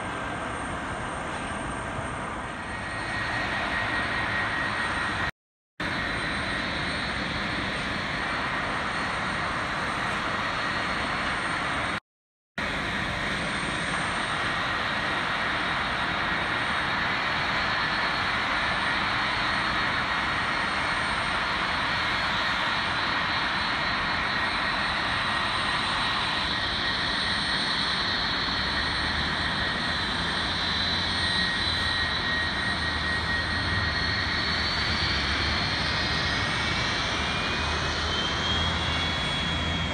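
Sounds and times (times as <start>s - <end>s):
jet engines roaring with whine: 0.0s - 12.0s, 12.6s - 39.9s.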